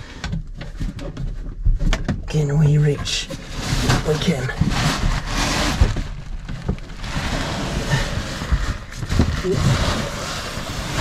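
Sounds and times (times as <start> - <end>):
rustling handling noise: 0.4 - 11.0.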